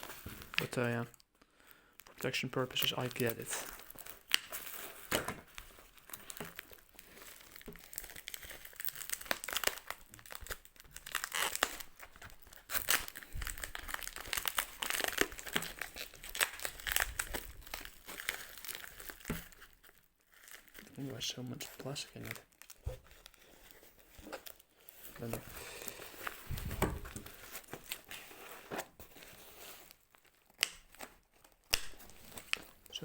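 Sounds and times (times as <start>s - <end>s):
plastic packaging crinkling and tearing: 0.0s - 33.0s.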